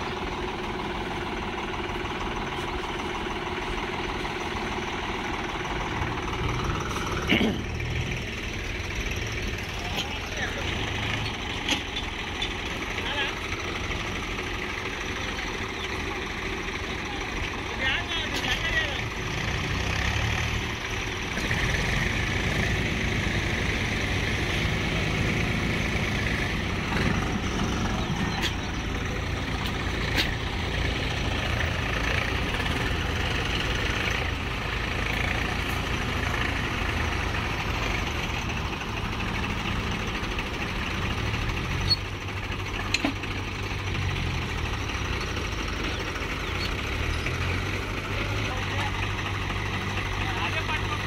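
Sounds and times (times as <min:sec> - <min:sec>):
tractor diesel engines under load: 0:00.0 - 0:51.0.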